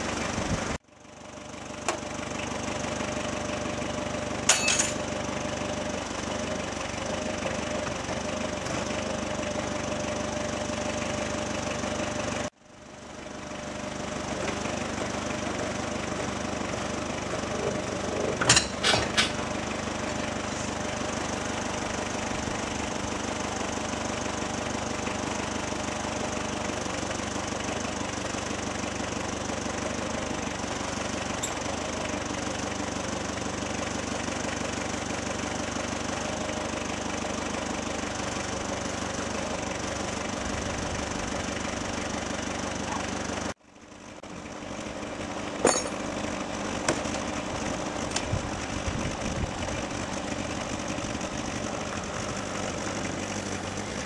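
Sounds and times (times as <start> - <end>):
combustion engine running: 0.0 - 54.0.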